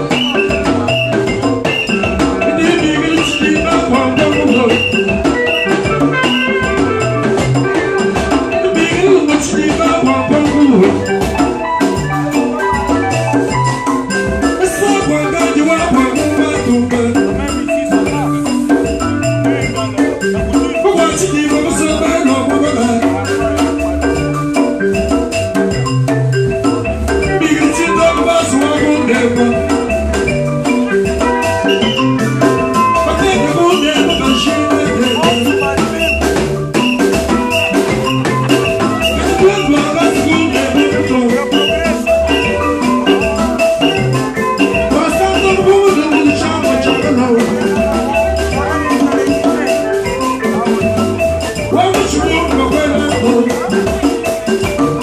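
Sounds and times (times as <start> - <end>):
band playing: 0.0 - 55.0
bass line: 0.0 - 55.0
conga drums struck by hand: 0.0 - 55.0.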